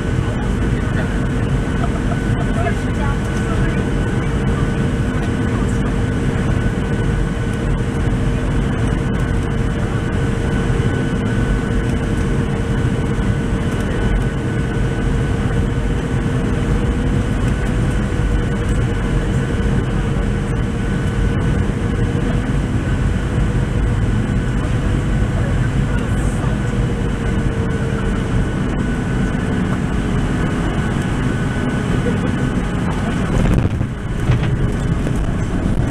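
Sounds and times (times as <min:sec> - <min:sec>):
airplane cabin engine rumble: 0:00.0 - 0:35.9.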